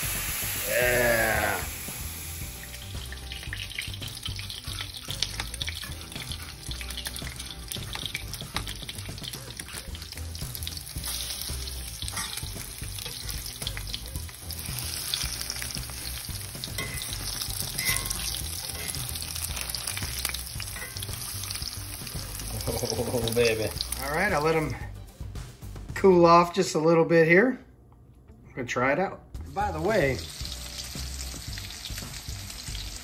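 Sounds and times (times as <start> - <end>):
fish frying in oil: 0.0 - 24.6, 29.8 - 33.0.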